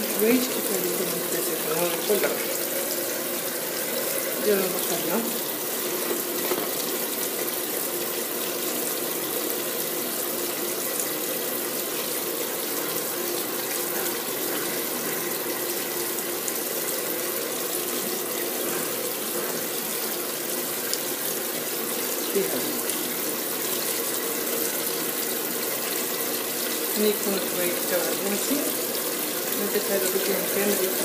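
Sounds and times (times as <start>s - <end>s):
water running into washing machine: 0.0s - 31.0s.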